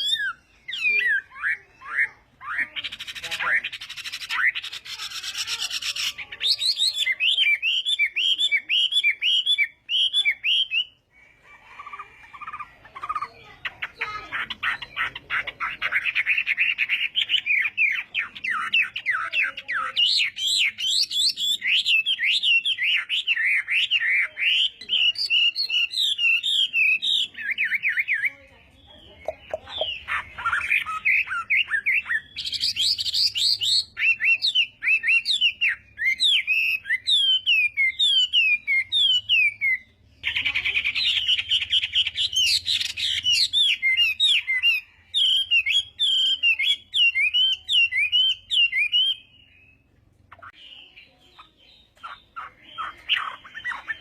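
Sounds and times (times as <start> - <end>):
bird singing whistled notes: 0.0 - 2.7, 5.8 - 11.0, 16.2 - 28.3, 29.2 - 54.0.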